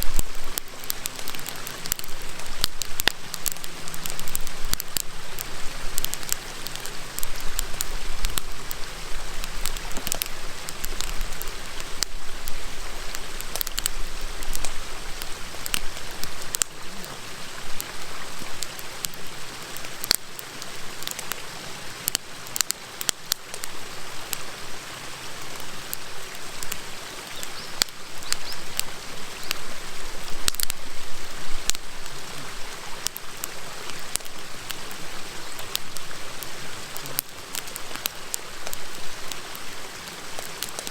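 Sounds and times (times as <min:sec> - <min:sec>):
wood fire crackling and popping: 0:00.0 - 0:21.4, 0:22.0 - 0:24.5, 0:25.3 - 0:29.6, 0:30.4 - 0:30.8, 0:31.6 - 0:40.9.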